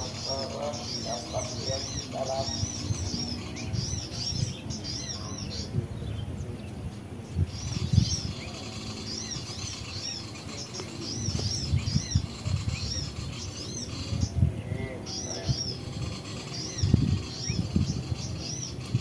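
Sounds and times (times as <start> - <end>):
small birds chirping through a speaker: 0.0 - 19.0.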